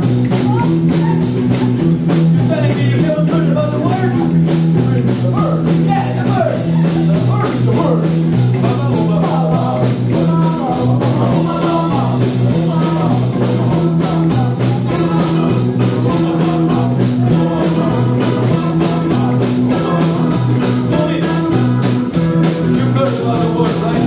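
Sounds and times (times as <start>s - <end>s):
fast steady drum beat: 0.0s - 24.0s
rock band playing: 0.0s - 24.0s.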